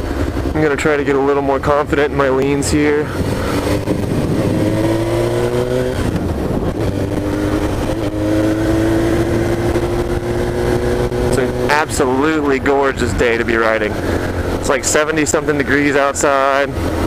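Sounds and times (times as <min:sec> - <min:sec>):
motorcycle engine revving: 0:00.0 - 0:17.0
wind noise: 0:02.8 - 0:17.0.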